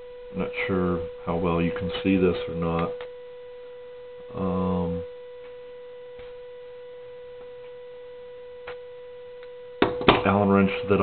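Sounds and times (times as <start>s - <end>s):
steady electrical buzz: 0.0s - 11.0s.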